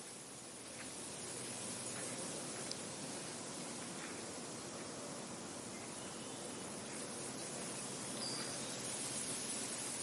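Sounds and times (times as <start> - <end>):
wind rustling across field: 0.0 - 10.0.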